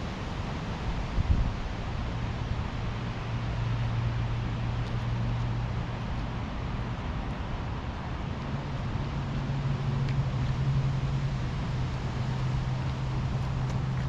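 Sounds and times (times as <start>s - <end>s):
wind or road noise: 0.0s - 14.0s
engine humming: 1.7s - 14.0s.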